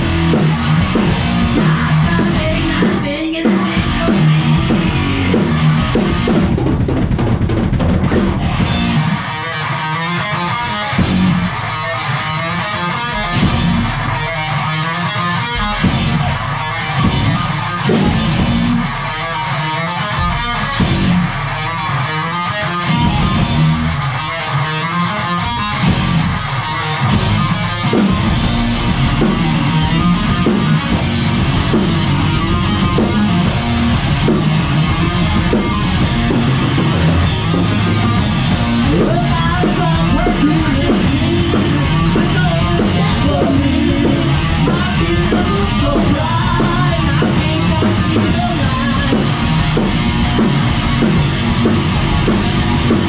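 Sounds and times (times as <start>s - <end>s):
heavy metal band playing: 0.0s - 53.0s.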